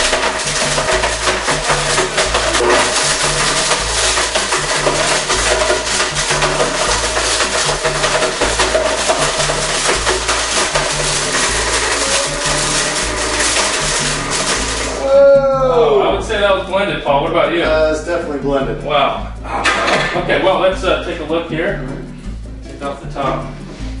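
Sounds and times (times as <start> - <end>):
background music with drum beat: 0.0 - 24.0
bass line: 0.0 - 24.0.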